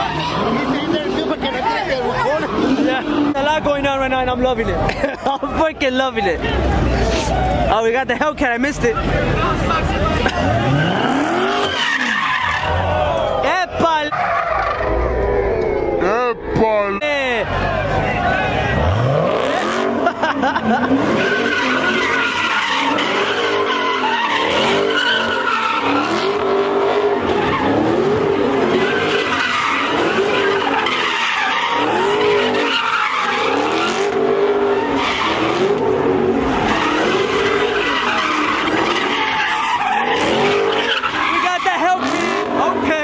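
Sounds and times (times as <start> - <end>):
car engine revving: 0.0 - 43.0
tires squealing: 0.0 - 43.0.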